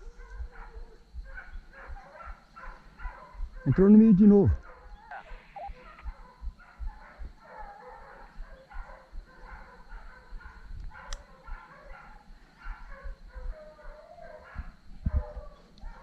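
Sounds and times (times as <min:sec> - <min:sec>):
hunting dogs baying: 0:00.0 - 0:16.0.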